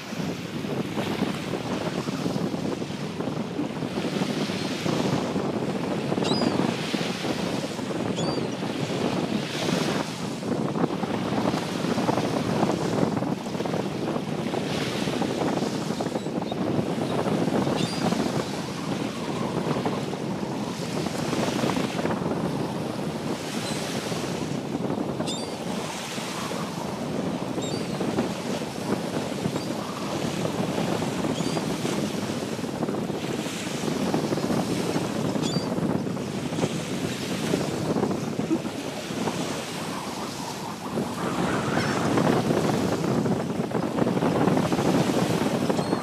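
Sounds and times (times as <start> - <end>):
surf washing on shore: 0.0 - 46.0
wind gusting on microphone: 0.0 - 46.0.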